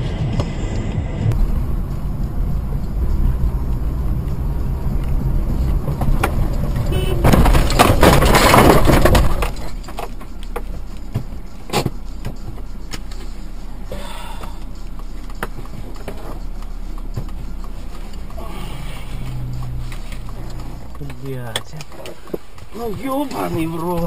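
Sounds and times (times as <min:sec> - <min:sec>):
car interior rumble: 0:00.0 - 0:24.0
car crashing and scraping: 0:04.2 - 0:24.0.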